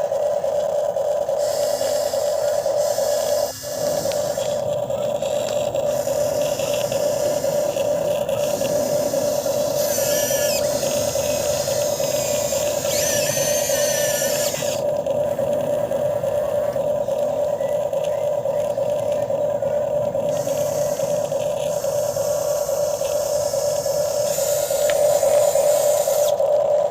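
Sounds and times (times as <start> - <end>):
toy excavator motor whine: 0.0 - 26.9
wavering squeals: 1.4 - 26.4.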